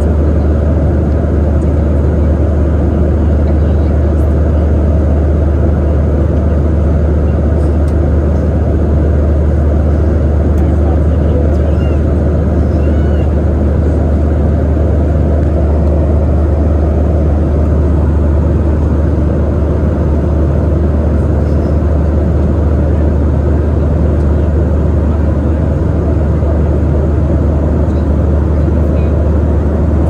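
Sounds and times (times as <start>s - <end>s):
jet engines humming: 0.0s - 30.0s.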